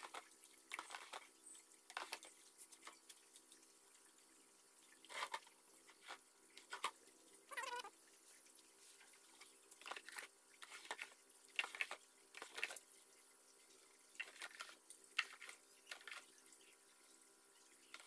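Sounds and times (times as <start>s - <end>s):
liquid sloshing in plastic tub: 0.0s - 16.9s.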